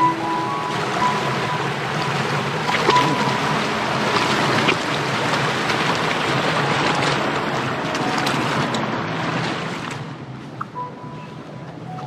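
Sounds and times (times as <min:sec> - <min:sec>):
stream flowing over stones: 0:00.0 - 0:10.2.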